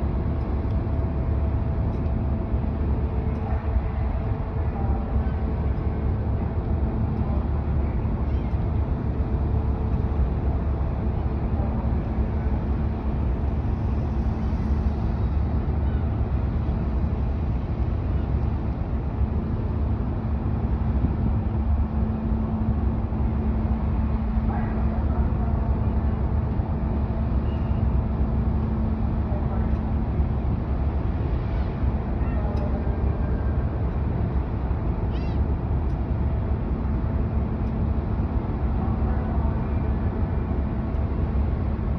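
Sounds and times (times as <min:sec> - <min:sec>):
droning hum: 0:00.0 - 0:41.9.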